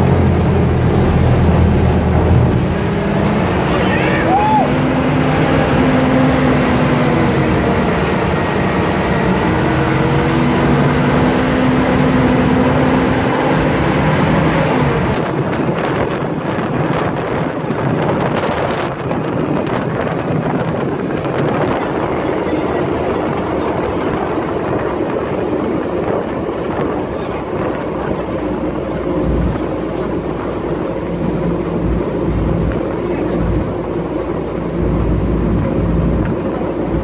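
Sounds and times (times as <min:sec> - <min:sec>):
road noise: 0:00.0 - 0:37.0
vehicle engine hum: 0:00.0 - 0:37.0
wind buffeting microphone: 0:00.0 - 0:37.0.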